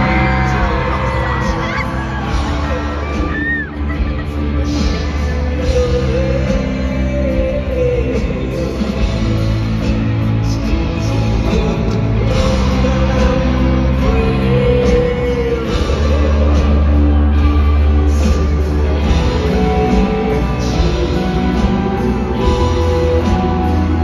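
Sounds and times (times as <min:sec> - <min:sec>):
heavy bass and drums: 0:00.0 - 0:24.0
live rock band playing: 0:00.0 - 0:24.0
person singing lead vocal: 0:00.0 - 0:24.0.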